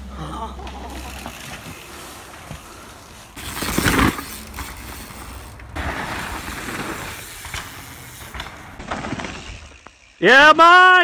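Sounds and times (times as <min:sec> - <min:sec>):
bike tyres on dirt: 0:00.6 - 0:11.0.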